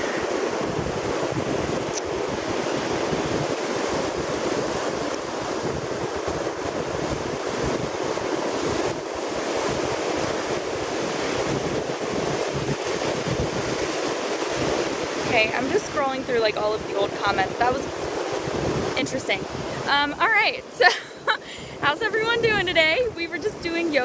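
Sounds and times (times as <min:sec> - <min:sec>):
ocean surf washing on beach: 0:00.0 - 0:24.0
wind buffeting microphone: 0:00.0 - 0:24.0.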